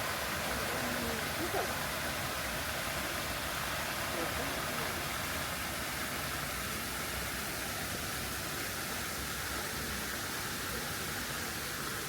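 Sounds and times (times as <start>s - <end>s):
outdoor ambience rushing noise: 0.0s - 12.0s.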